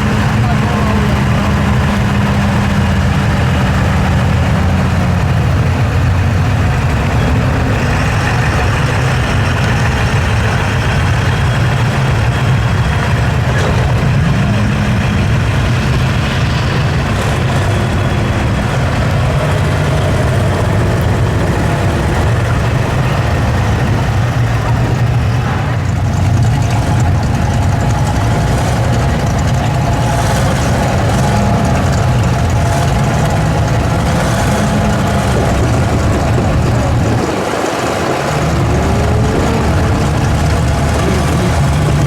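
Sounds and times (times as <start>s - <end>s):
truck engine running low revs: 0.0s - 42.0s.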